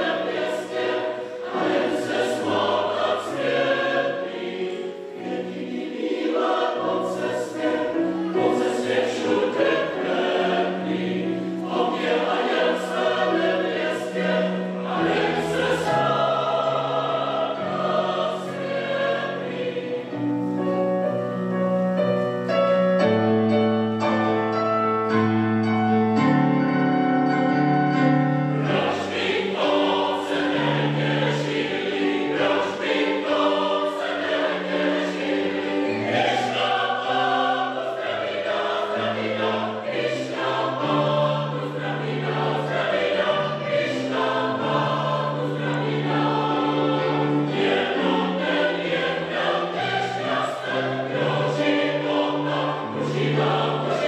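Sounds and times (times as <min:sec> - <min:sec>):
mixed choir singing: 0:00.0 - 0:21.2, 0:28.0 - 0:54.0.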